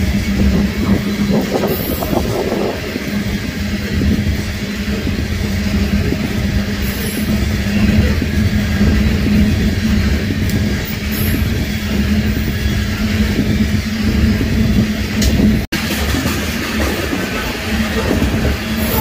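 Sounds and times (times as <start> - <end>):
freight train rumbling by: 0.0 - 19.0.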